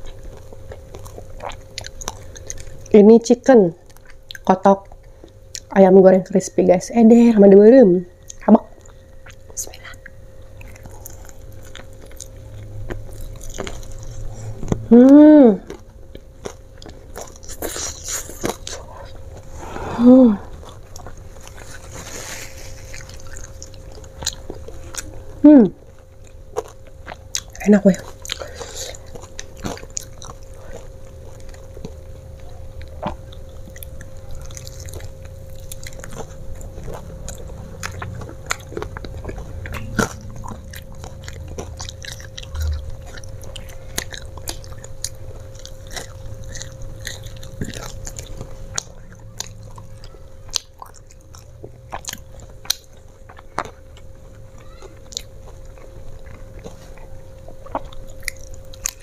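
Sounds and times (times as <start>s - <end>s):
chewing: 0.0s - 3.0s, 3.8s - 5.8s, 8.2s - 19.8s, 20.4s - 59.0s.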